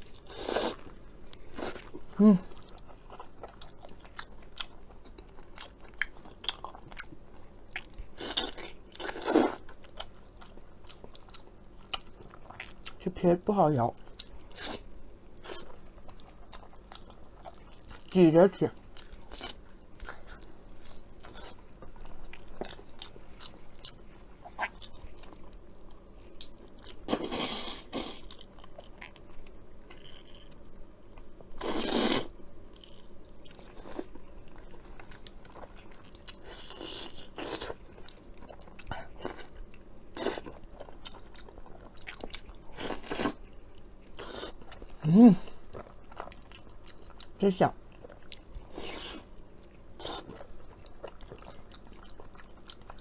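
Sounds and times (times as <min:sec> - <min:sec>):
person chewing with wet smacks: 0:00.0 - 0:13.0, 0:13.9 - 0:14.8, 0:18.8 - 0:32.2, 0:32.8 - 0:53.0.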